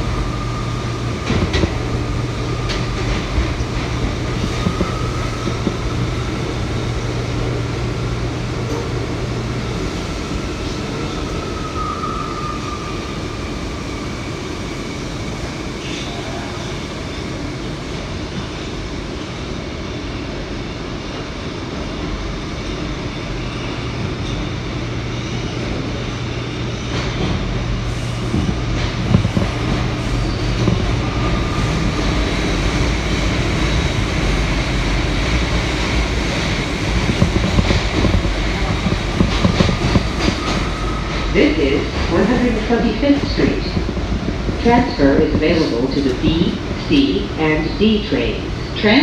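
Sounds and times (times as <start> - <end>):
subway train wheels rumbling: 0.0 - 49.0.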